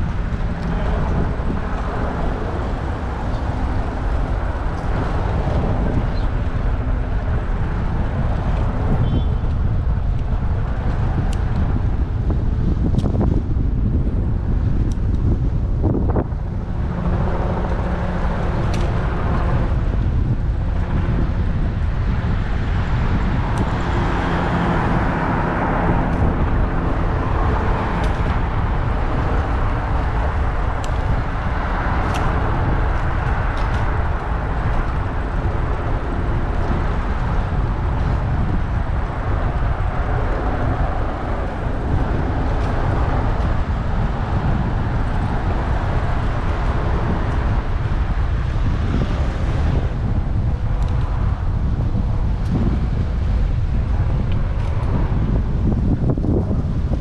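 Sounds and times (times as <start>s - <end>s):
low wind rumble: 0.0s - 57.0s
passing vehicles: 0.0s - 57.0s.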